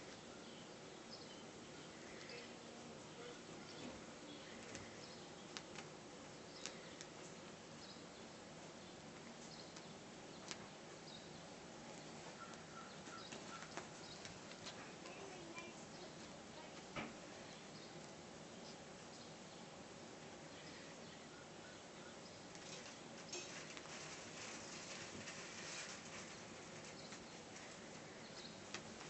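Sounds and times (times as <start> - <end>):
steady low hiss: 0.0 - 29.0.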